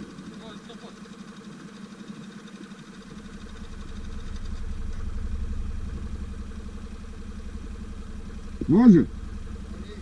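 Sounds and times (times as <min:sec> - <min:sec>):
atv engine idling: 0:00.0 - 0:10.0.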